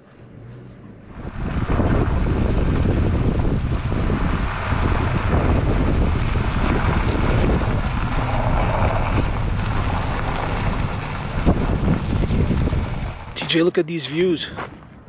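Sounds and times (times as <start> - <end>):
running gear rumble: 0.0 - 15.0
wind buffeting microphone: 1.1 - 13.6
tyres rolling on gravel: 1.2 - 14.9.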